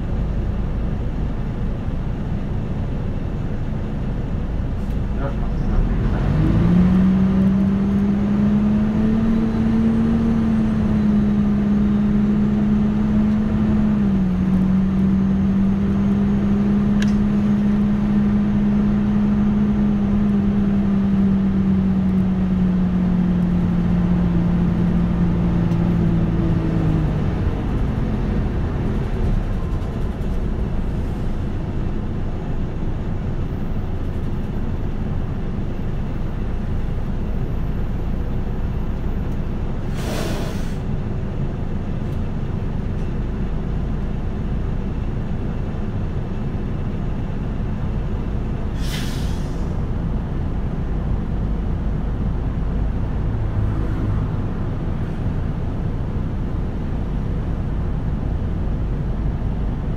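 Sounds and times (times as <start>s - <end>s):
bus engine drone: 0.0s - 59.9s
bus road and running noise: 0.0s - 59.9s.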